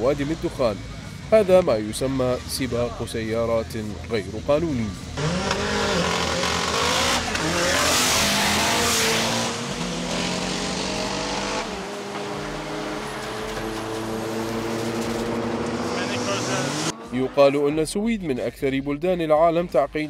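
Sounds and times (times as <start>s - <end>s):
car engines revving: 0.0s - 17.8s.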